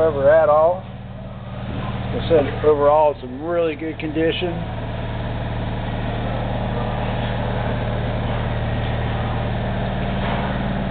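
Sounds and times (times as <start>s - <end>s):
low mechanical hum: 0.0s - 10.9s.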